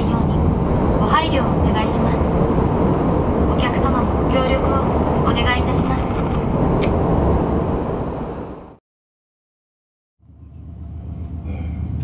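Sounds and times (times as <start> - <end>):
train rumble inside carriage: 0.0 - 8.8, 10.2 - 12.0.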